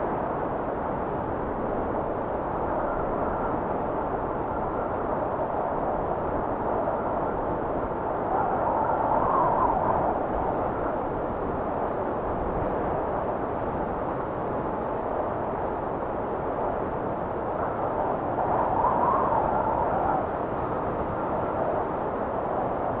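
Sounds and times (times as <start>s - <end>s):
wind blowing in gusts: 0.0s - 23.0s.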